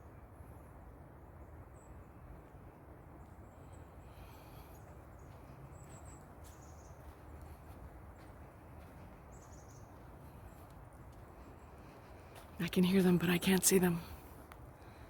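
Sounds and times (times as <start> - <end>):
forest background rush: 0.0 - 15.0
songbird chirps: 1.2 - 15.0.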